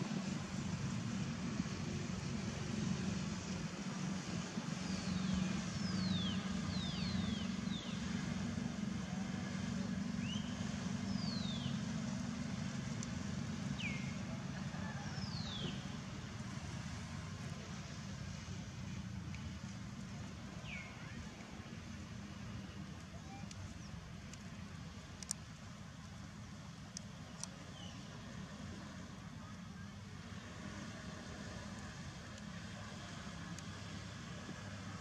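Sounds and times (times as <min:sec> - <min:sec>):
low engine-like rumble: 0:00.0 - 0:35.0.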